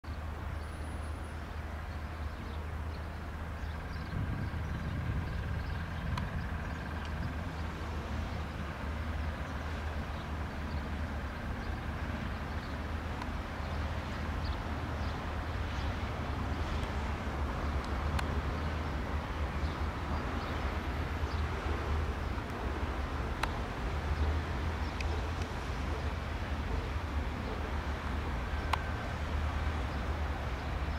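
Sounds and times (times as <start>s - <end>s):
distant light aircraft engine droning: 0.1s - 30.9s.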